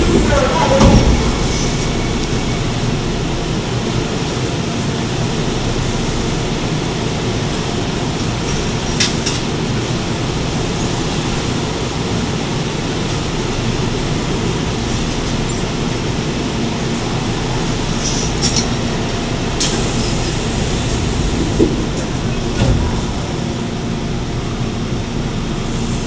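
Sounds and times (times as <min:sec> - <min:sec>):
train wheels and motors rumbling: 0:00.0 - 0:26.0.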